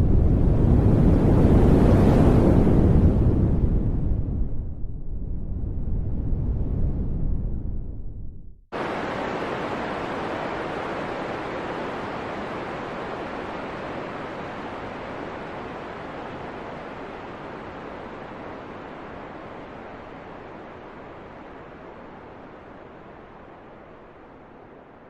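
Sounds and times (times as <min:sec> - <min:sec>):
wind blowing: 0:00.0 - 0:25.0.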